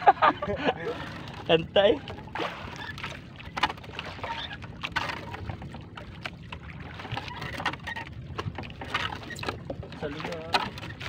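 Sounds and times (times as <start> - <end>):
water sloshing at hull: 0.0 - 11.0.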